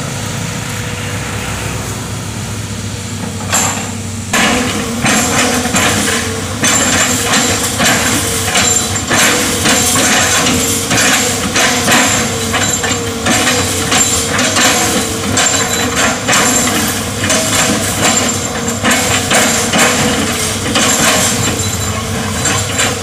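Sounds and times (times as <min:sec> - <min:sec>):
excavator diesel engine under load: 0:00.0 - 0:23.0.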